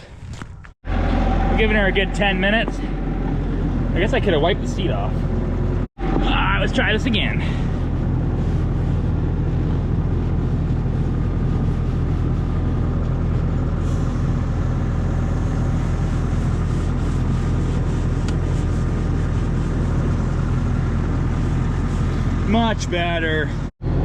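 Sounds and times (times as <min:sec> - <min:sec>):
diesel engine idling: 0:00.8 - 0:24.0.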